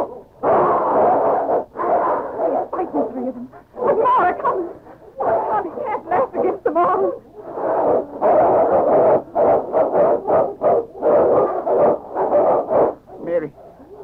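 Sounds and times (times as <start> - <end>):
animals growling and barking: 0.0 - 14.0.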